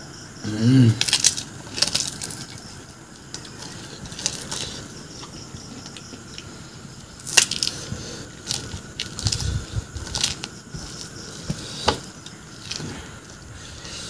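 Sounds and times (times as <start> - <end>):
crisp shells crunching while eaten: 0.9 - 14.0.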